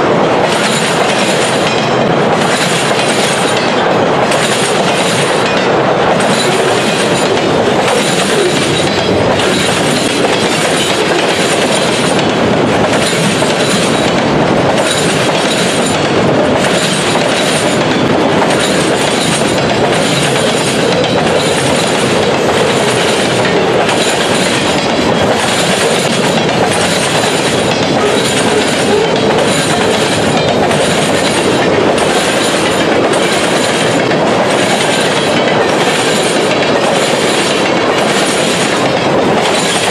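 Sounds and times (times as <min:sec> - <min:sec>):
freight train wheels rumbling: 0:00.0 - 0:39.9
rail joint clatter: 0:00.0 - 0:39.9.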